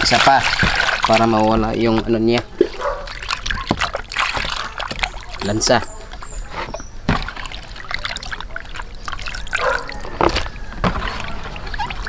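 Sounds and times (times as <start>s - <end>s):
water splashing in a tub: 0.0s - 12.0s.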